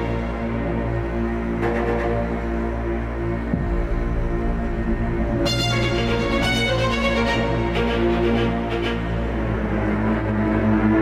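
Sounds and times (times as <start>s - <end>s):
music of low held notes: 0.0s - 11.0s.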